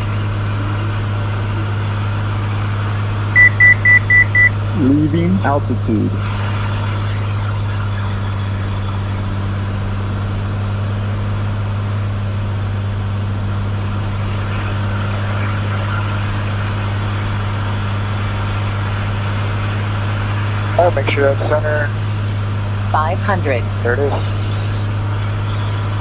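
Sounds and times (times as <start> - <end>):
aircraft engine and propeller droning: 0.0 - 26.0.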